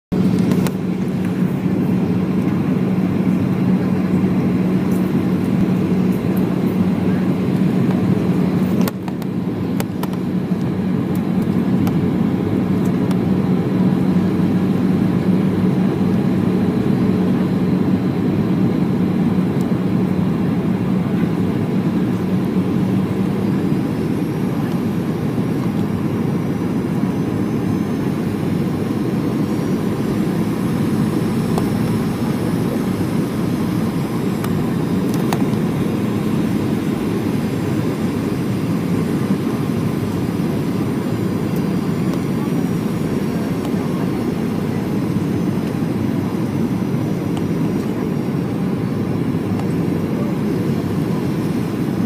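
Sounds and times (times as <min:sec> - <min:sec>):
low drone: 0:00.1 - 0:46.2
airflow rush in plane cabin: 0:00.1 - 0:52.0
jet engines humming: 0:00.1 - 0:52.0.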